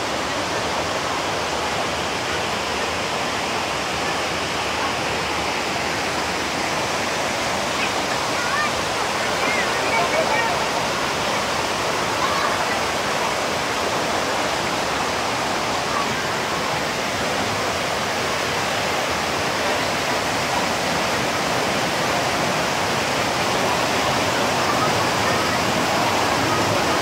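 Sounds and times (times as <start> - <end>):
waterfall and rushing stream: 0.0 - 27.0.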